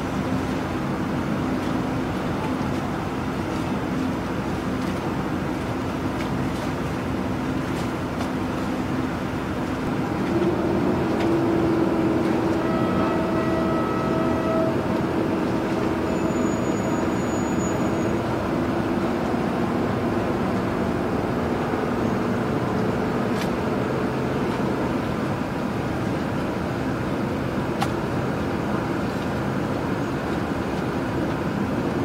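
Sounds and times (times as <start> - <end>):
vessel engine rumble: 0.0 - 32.0
water wash: 0.0 - 32.0.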